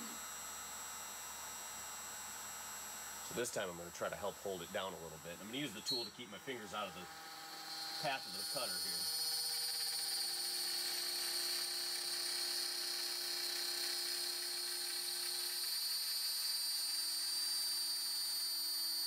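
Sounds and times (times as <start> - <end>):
router cutting with high whine: 0.0 - 19.0.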